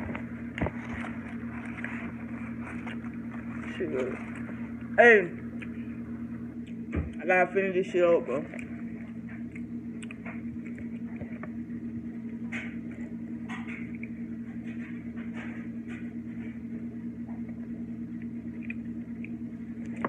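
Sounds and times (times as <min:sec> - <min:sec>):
person chewing food: 0:00.0 - 0:07.2, 0:08.5 - 0:11.6, 0:12.2 - 0:15.7, 0:17.3 - 0:20.0
clothes dryer humming: 0:00.0 - 0:20.0.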